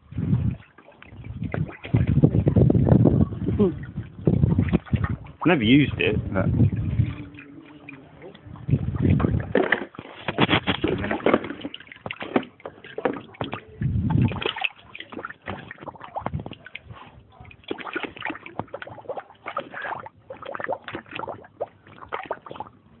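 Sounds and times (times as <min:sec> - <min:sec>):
pool water sloshing and splashing: 0:00.0 - 0:23.0.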